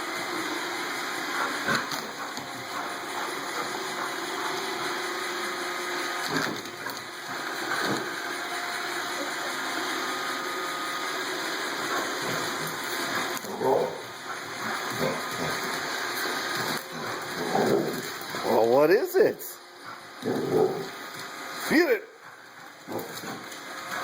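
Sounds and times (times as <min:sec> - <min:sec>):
robot vacuum whirring: 0:00.1 - 0:24.0.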